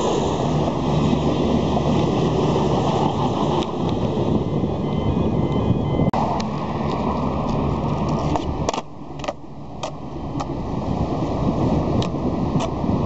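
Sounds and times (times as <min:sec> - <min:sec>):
road traffic: 0:00.0 - 0:13.0
wind buffeting microphone: 0:00.0 - 0:13.0.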